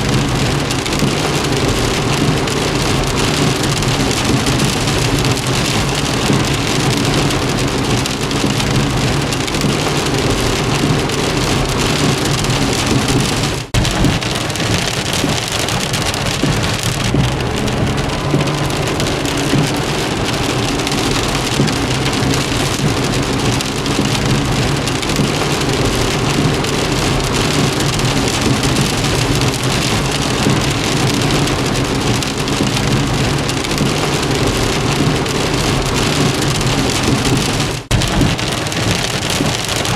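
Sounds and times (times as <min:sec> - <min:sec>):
heavy rain on car: 0:00.0 - 0:39.9.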